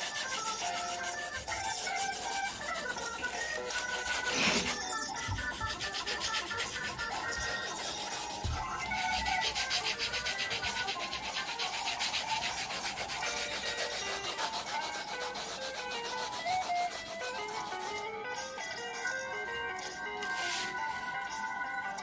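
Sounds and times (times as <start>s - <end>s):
pencil shading on paper: 0.0s - 18.0s, 20.2s - 20.8s
simple background melody: 0.0s - 22.0s.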